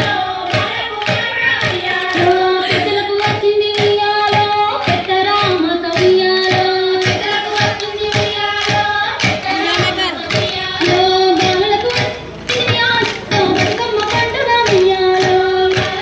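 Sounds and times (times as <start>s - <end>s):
women singing a melody: 0.0s - 16.0s.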